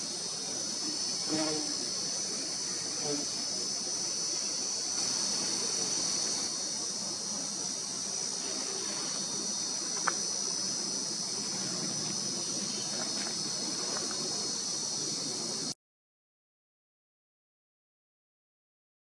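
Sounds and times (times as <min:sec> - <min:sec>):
high-pitched insect chorus: 0:00.0 - 0:15.8.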